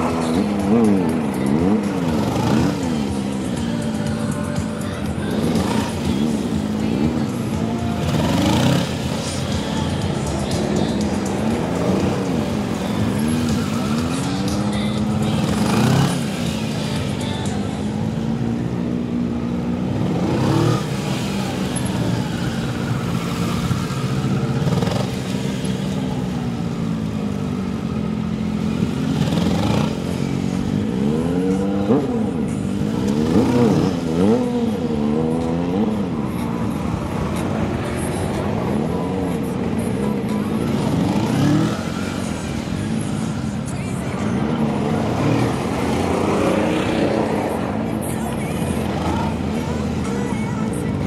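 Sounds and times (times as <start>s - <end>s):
motorcycle engine revving: 0.0s - 50.2s.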